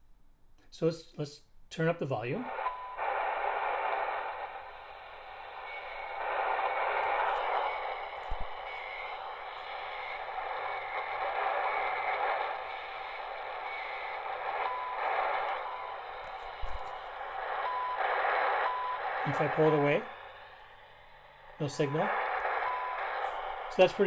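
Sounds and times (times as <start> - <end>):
shortwave radio static: 2.1 - 24.0.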